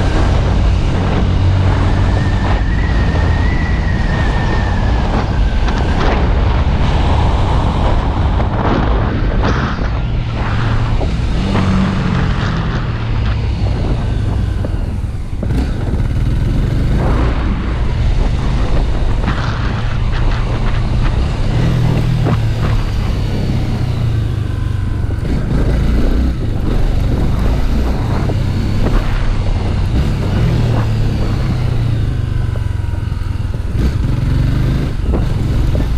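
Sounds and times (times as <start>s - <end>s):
heavy rushing noise: 0.0s - 35.9s
motorcycle engine humming: 0.0s - 35.9s.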